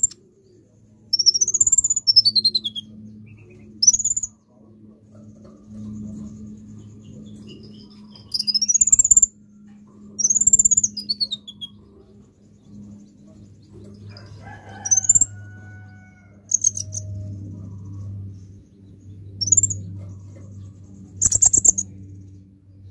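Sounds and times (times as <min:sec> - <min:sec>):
bird chirping: 0:00.0 - 0:04.4, 0:05.4 - 0:15.9, 0:16.5 - 0:22.5
low steady hum: 0:00.0 - 0:22.9.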